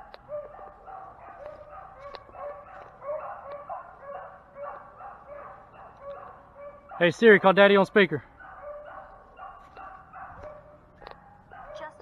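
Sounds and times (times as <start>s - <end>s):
hounds baying: 0.0s - 7.5s, 8.2s - 12.0s.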